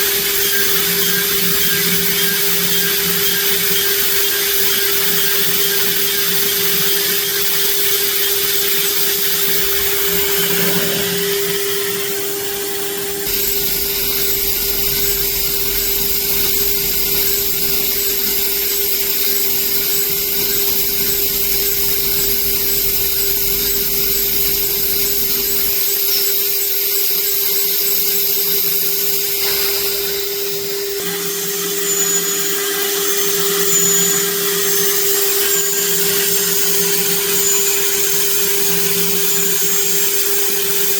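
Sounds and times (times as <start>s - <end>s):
cnc spindle milling aluminium: 0.0s - 40.9s.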